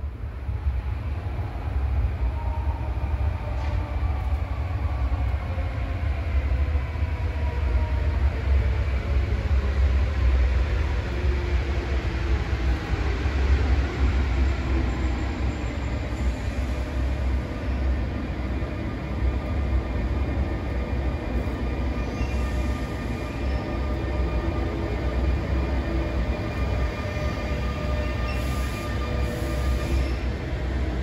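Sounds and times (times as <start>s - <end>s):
electric train approaching: 0.0s - 31.0s.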